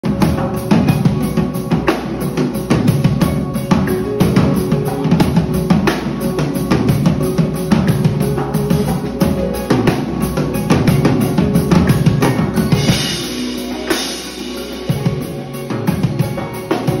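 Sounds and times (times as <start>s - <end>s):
drum kit playing groove: 0.0s - 17.0s
held chords: 0.0s - 17.0s.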